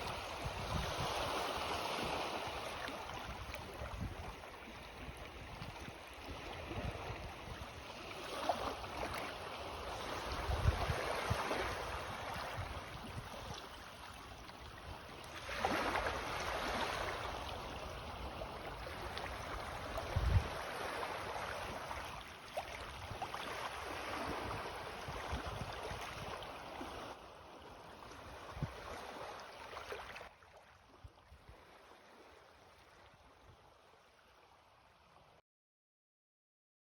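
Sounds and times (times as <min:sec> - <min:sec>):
small waves washing onto shore: 0:00.0 - 0:35.4.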